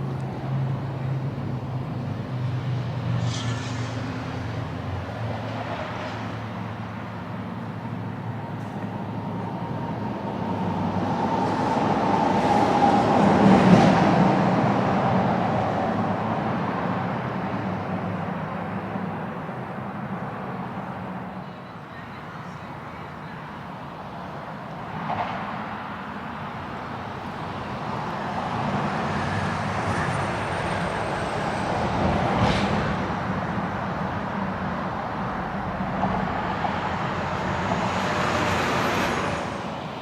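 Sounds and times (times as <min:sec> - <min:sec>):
traffic engine hum: 0:00.0 - 0:21.4, 0:25.7 - 0:40.0.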